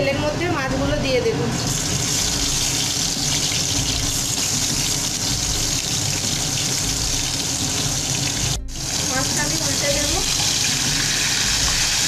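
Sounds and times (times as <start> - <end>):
fish frying in hot oil: 1.6 - 12.0.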